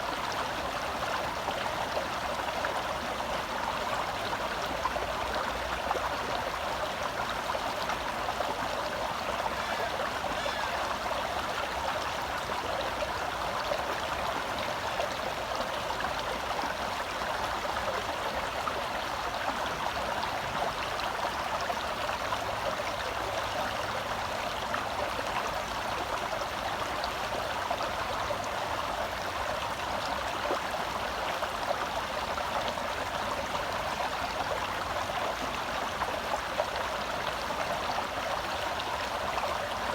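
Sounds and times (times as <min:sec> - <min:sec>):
stream gurgling over rocks: 0:00.0 - 0:39.9.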